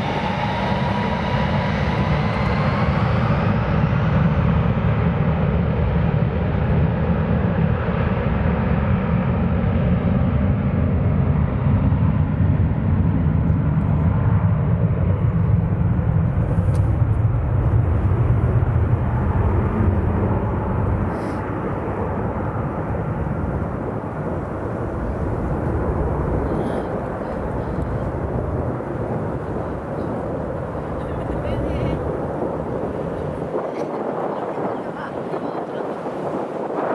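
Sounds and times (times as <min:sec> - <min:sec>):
jet engines rumbling: 0:00.0 - 0:36.9.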